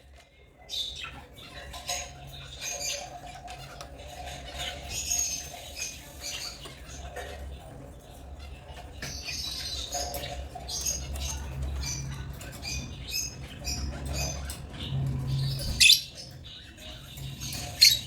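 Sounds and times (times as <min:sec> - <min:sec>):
lovebirds chirping: 0:00.6 - 0:18.0.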